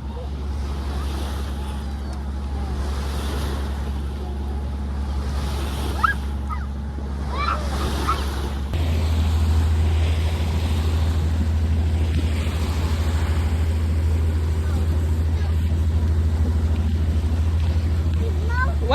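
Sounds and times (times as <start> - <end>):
boat engine droning: 0.0 - 18.9
rushing water: 0.0 - 18.9
wind: 0.0 - 18.9.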